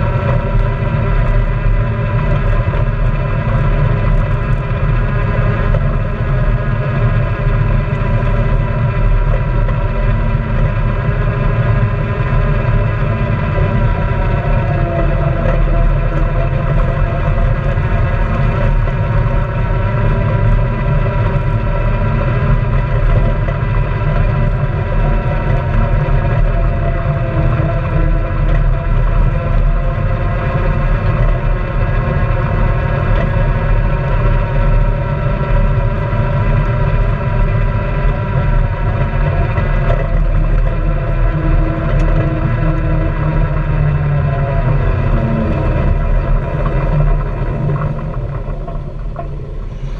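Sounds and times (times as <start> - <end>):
utility vehicle engine running: 0.0 - 49.9.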